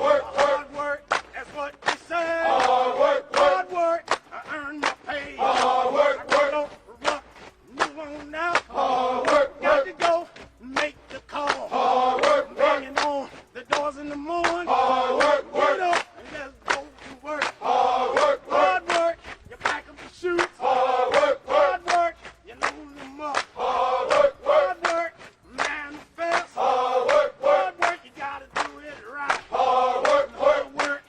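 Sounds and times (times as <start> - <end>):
male voices chanting: 0.0 - 31.0.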